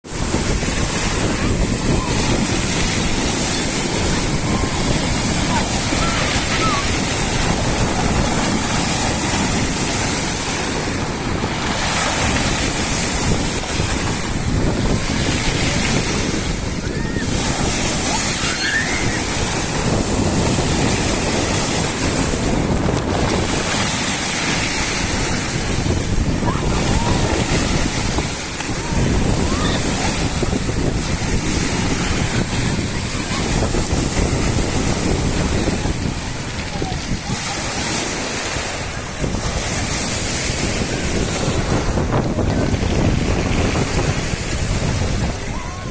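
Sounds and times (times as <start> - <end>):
sea waves washing ashore: 0.0 - 45.9
wind buffeting microphone: 0.0 - 45.9.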